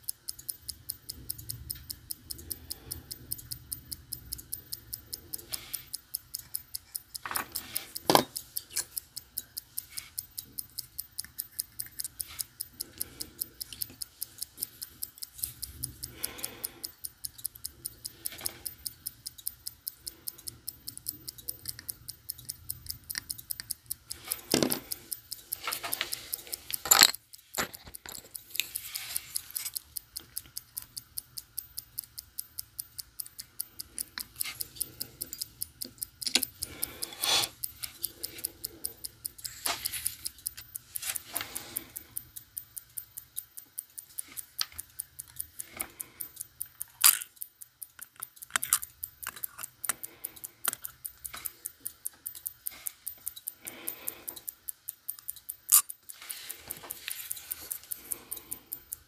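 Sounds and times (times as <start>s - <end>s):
tools clicking on movement: 0.0s - 59.0s
watch movement ticking: 0.0s - 59.0s.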